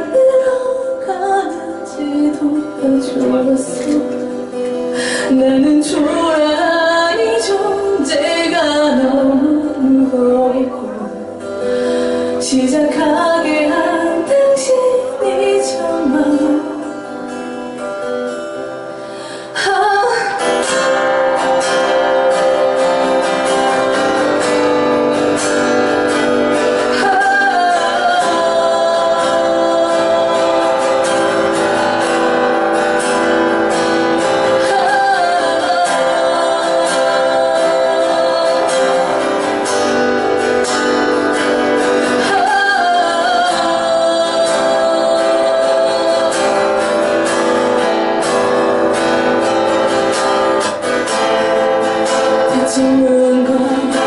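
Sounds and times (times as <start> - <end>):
woman singing: 0.0 - 17.9, 19.4 - 54.0
strummed acoustic guitar: 0.0 - 54.0.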